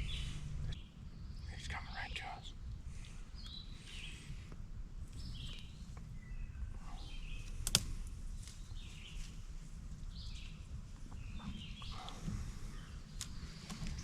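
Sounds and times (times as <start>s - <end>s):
songbirds chirping: 0.0s - 14.0s
steady low rumble: 0.0s - 14.0s.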